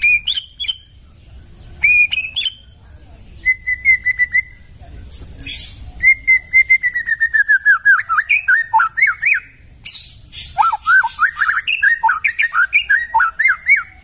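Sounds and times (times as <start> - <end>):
bird singing whistled notes: 0.0 - 14.0.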